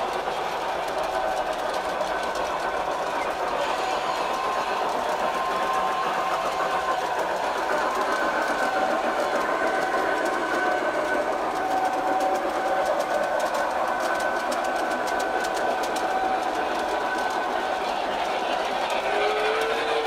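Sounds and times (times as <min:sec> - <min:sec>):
wheels clicking over rail joints: 0:00.0 - 0:20.0.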